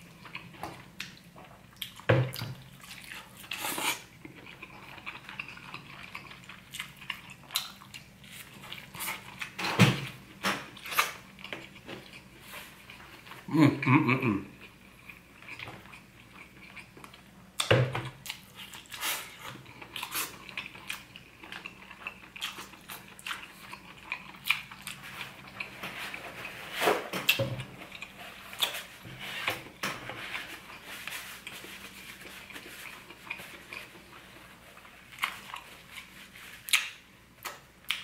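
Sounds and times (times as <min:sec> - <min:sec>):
person chewing: 0:00.0 - 0:09.6, 0:10.7 - 0:26.6, 0:27.2 - 0:38.0.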